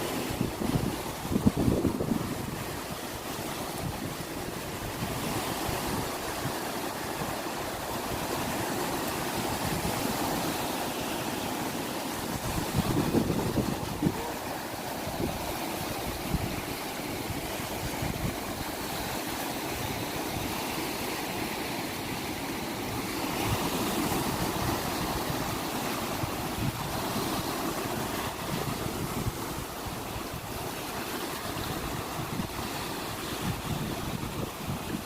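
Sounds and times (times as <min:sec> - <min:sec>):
ocean waves washing ashore: 0:00.0 - 0:35.0
wind on microphone: 0:00.0 - 0:35.0.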